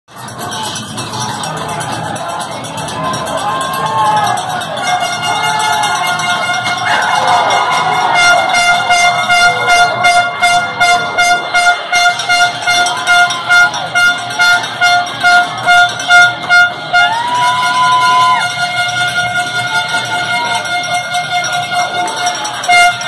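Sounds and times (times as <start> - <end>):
arena crowd noise: 0.1 - 23.0
air horn toots: 2.2 - 23.0.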